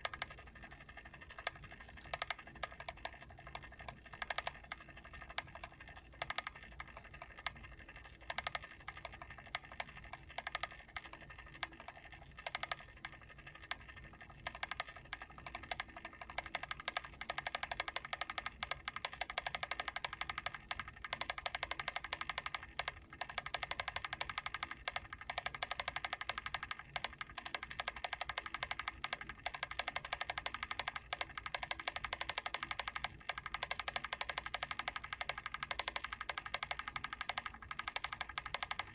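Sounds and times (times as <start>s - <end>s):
mechanical timer clicking: 0.0s - 38.9s.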